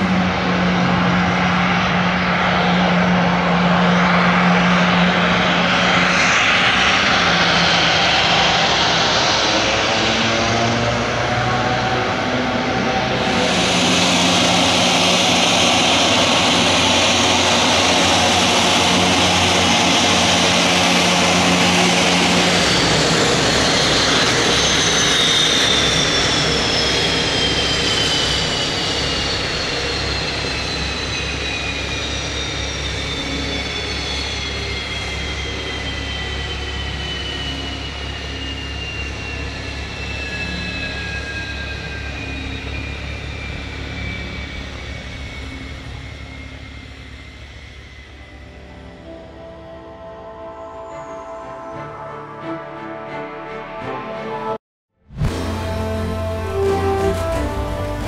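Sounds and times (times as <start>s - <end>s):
turbine whine spooling down: 0.0s - 51.7s, 55.2s - 58.0s
propeller engine droning: 0.0s - 52.5s, 55.1s - 58.0s.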